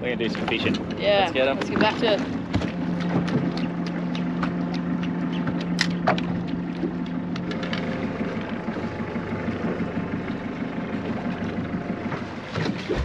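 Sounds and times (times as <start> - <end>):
boat engine idling: 0.0 - 13.0
light taps on hull: 0.3 - 13.0.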